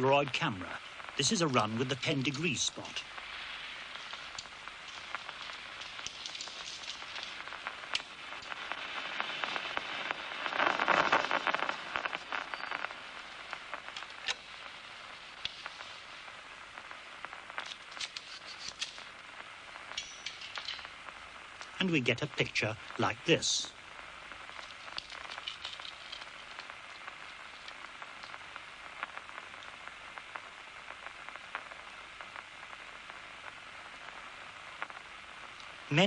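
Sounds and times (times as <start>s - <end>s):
nerve recording crackling spikes: 0.0s - 36.0s.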